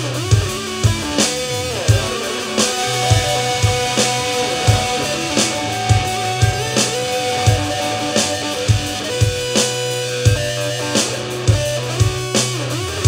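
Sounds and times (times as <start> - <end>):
drum kit steady beat: 0.0 - 13.0
electric guitar bending notes: 0.6 - 11.4.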